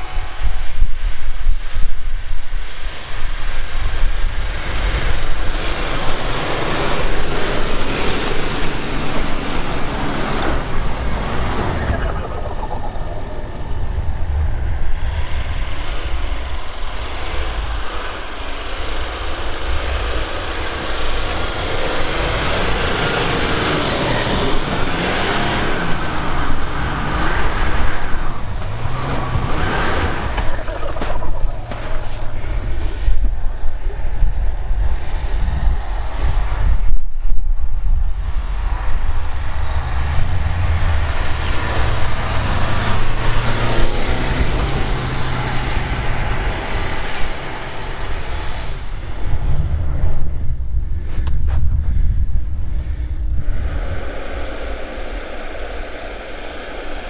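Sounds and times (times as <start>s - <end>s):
tyres churning in snow: 0.0s - 57.0s
car engine under load: 1.5s - 33.7s, 37.9s - 52.7s.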